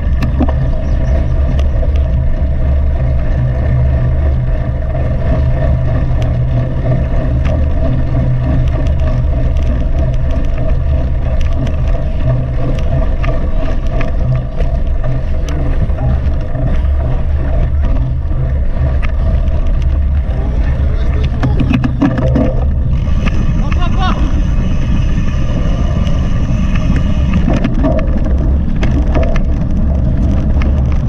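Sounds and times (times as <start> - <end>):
bike rattling clicks: 0.0 - 31.0
wind and tyre rumble: 0.0 - 31.0.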